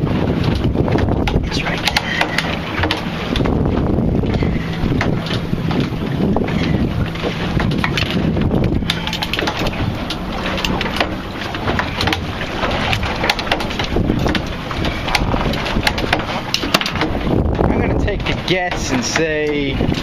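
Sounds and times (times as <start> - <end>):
boat motor idling: 0.0 - 20.0
wind buffeting microphone: 0.0 - 20.0
light clicks and knocks: 0.4 - 3.6, 4.2 - 17.2, 18.1 - 20.0.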